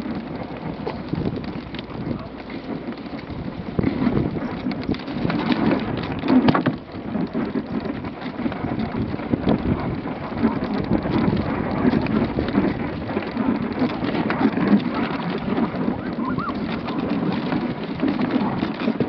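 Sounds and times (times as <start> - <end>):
sled frame rattling: 0.0 - 19.0
sled runners scraping over snow: 0.0 - 19.0.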